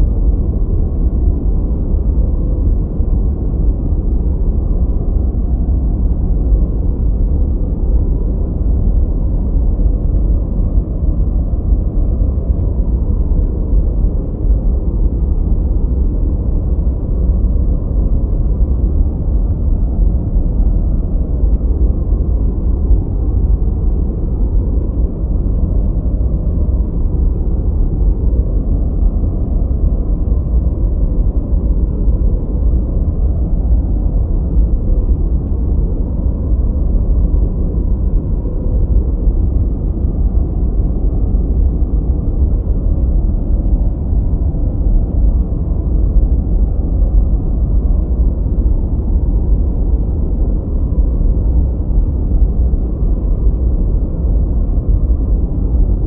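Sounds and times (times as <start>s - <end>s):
deep muffled noise: 0.0s - 56.0s.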